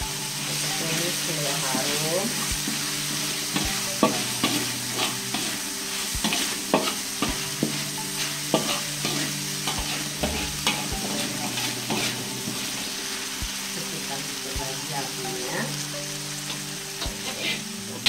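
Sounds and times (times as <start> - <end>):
paste sizzling in oil: 0.0 - 18.0
spatula scraping a wok: 0.3 - 13.1, 16.3 - 18.0.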